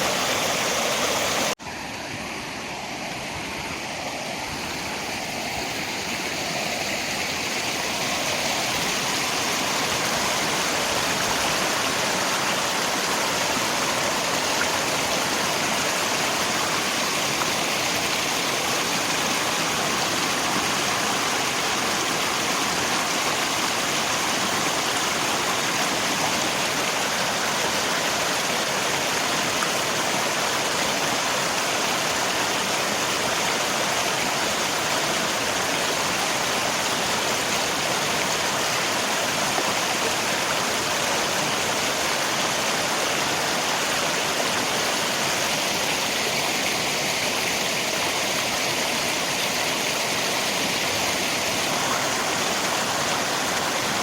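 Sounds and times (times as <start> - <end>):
rain: 0.0 - 54.0
river water rushing: 0.0 - 54.0.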